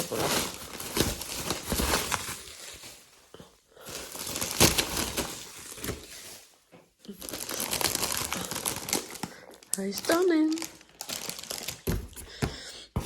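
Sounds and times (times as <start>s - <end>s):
paper wrapping crinkling: 0.0s - 12.4s.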